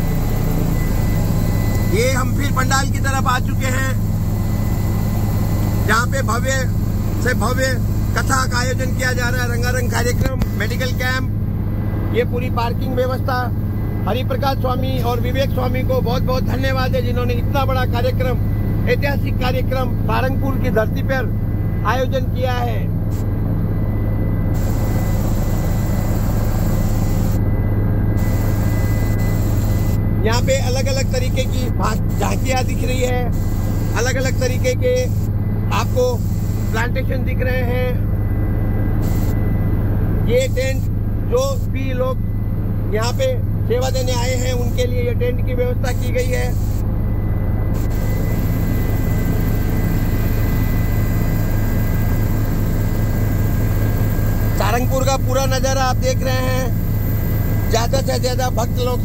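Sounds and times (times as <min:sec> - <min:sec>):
helicopter engine and rotor drone: 0:00.0 - 0:59.0
high whine: 0:00.0 - 0:59.0.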